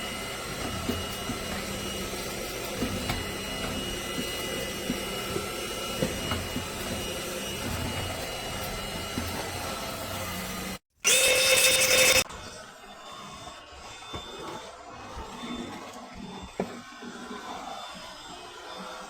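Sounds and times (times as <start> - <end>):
stick vacuum motor hum and whine: 0.0 - 19.0.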